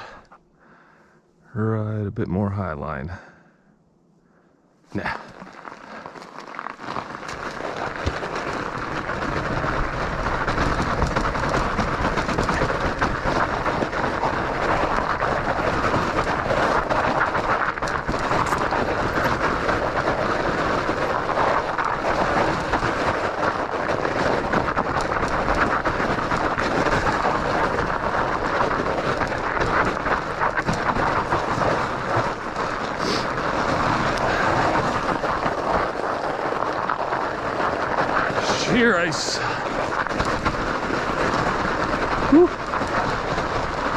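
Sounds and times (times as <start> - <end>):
bike rattling: 4.9 - 43.9
bike tires crunching on ice: 4.9 - 43.9.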